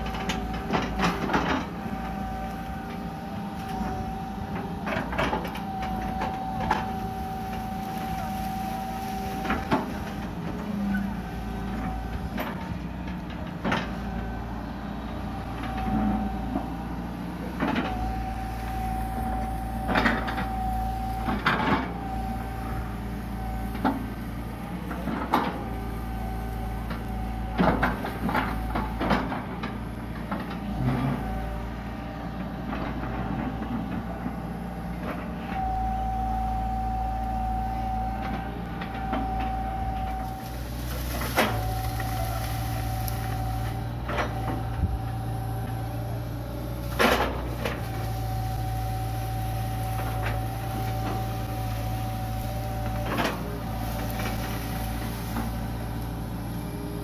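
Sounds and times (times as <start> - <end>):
excavator diesel engine humming: 0.0 - 57.0
hydraulic whining tone: 0.0 - 57.0.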